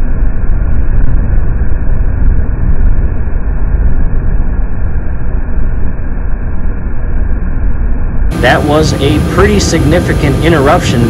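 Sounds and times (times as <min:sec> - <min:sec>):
gas furnace roaring: 0:00.0 - 0:11.0.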